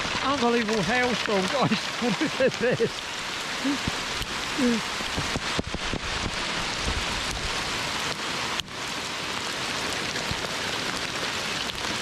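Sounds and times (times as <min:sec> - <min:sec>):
hail and rain falling hard: 0:00.0 - 0:12.0.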